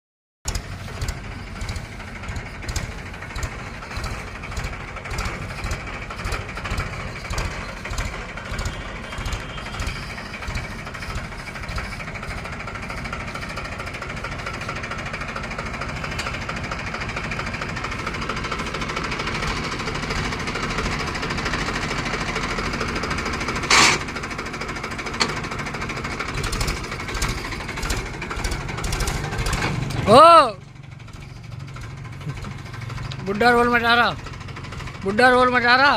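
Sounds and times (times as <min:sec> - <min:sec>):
diesel tractor engine knocking: 0:00.4 - 0:35.9.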